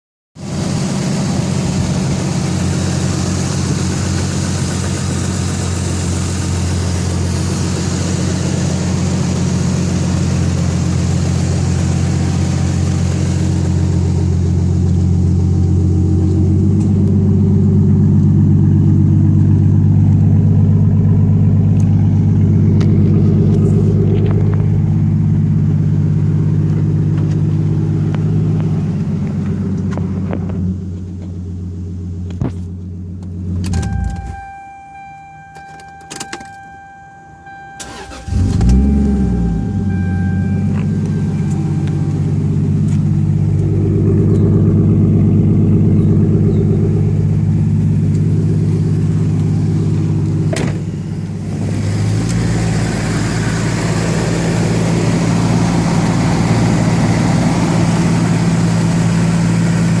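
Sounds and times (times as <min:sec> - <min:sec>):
car engine idling: 0:00.4 - 1:00.0.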